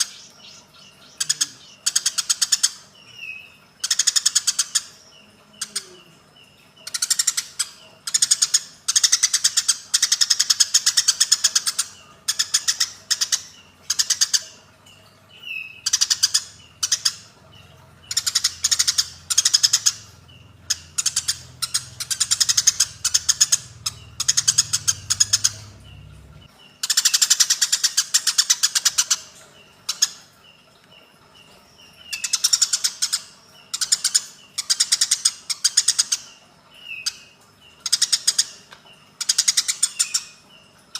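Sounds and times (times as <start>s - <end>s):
sparrows chattering: 0.0s - 40.9s.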